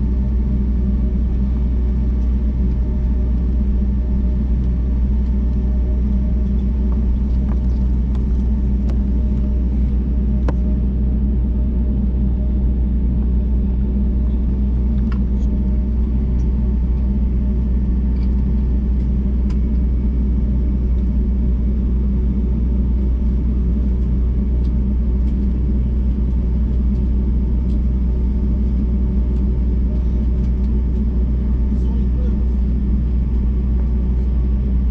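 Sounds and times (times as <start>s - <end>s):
jet engines rumbling in cabin: 0.0s - 34.9s.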